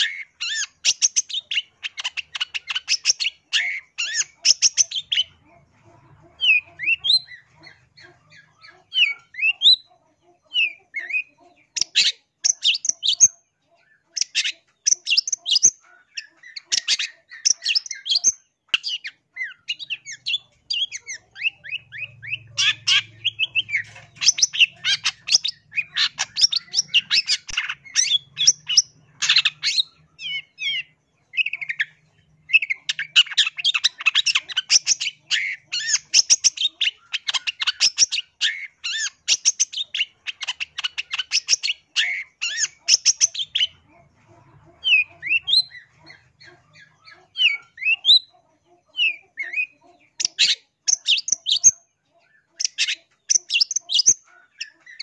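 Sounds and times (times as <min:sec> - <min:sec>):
bird harsh chattering song: 0:00.0 - 0:55.0.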